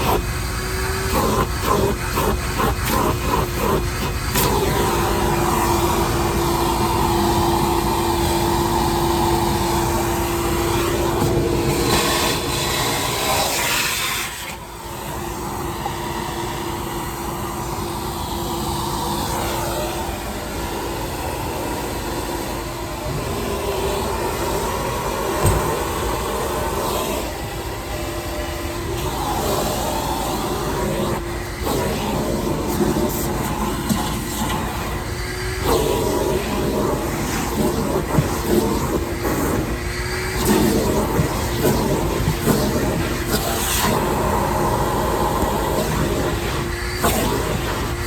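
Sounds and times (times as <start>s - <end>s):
shop vacuum motor hum: 0.0s - 48.0s.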